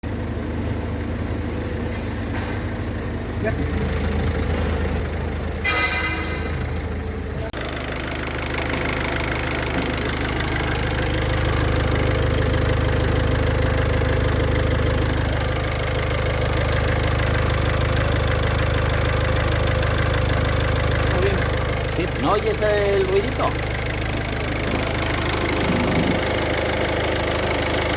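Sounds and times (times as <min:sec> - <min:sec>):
car engine idling: 0:00.0 - 0:27.9
rapid chirping from clutch bearing: 0:02.9 - 0:27.9.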